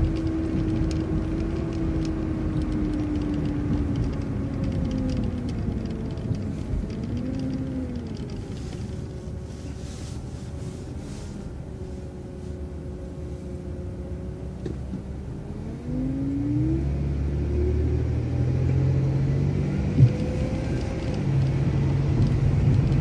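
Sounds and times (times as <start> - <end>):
bus engine drone with whine: 0.0 - 23.0.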